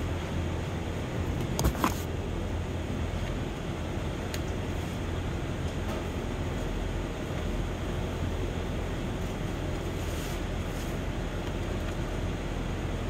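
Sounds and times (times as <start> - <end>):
low workshop hum: 0.0 - 13.0.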